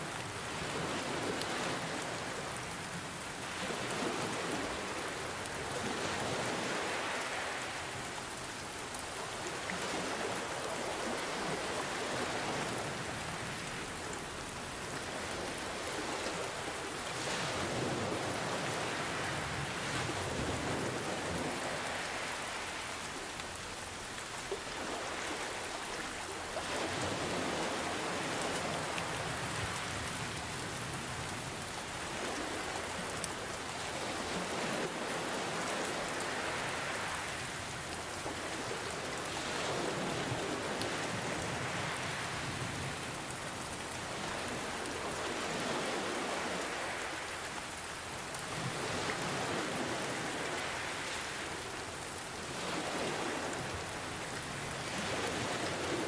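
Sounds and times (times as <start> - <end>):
ocean waves: 0.0 - 56.0
rain falling: 0.0 - 56.0.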